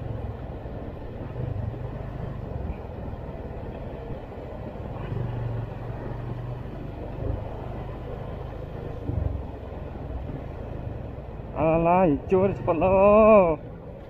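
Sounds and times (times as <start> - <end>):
low engine rumble: 0.0 - 14.0
road noise: 0.0 - 14.0.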